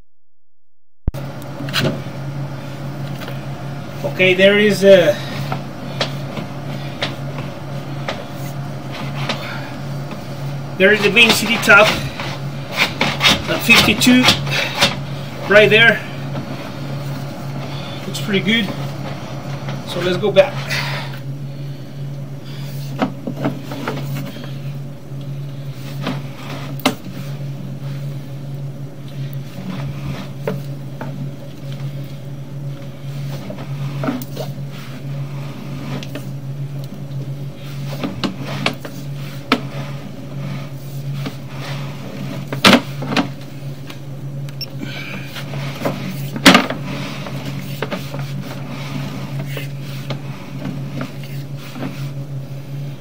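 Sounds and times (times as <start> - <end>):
steady low hum: 1.0 - 53.0.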